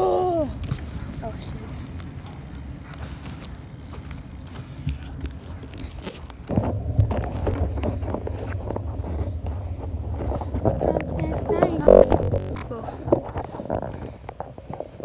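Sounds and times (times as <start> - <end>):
scooter wheels rolling on concrete: 0.0 - 15.0
wind rumbling on microphone: 0.0 - 15.0.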